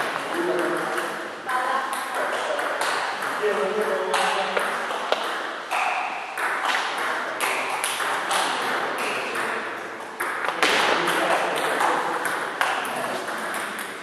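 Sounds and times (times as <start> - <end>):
table tennis balls clicking: 1.9 - 14.0.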